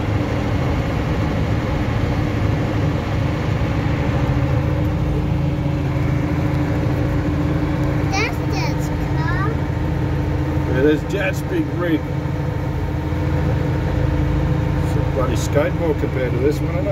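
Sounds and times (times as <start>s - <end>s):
road and drivetrain noise: 0.0s - 16.9s
truck engine droning: 0.0s - 16.9s.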